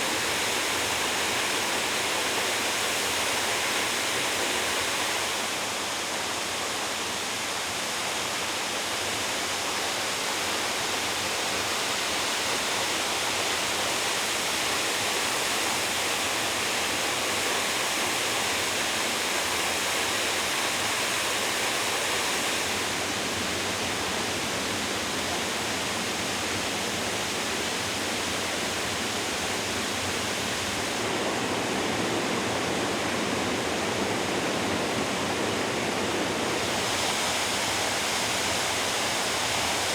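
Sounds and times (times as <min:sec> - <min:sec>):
waterfall rushing: 0:00.0 - 0:05.7, 0:11.1 - 0:39.9.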